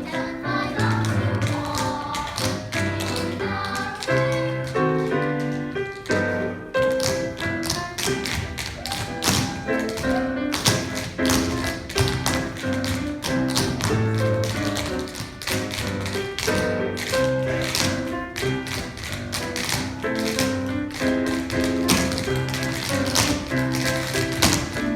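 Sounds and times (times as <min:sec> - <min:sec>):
recorded music: 0:00.0 - 0:24.9
tap shoes on stage floor: 0:00.8 - 0:24.9.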